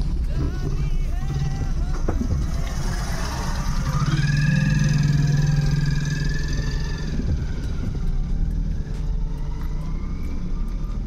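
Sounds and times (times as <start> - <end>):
car engine: 0.0 - 11.0
engine whine: 0.0 - 11.0
road noise: 0.0 - 11.0.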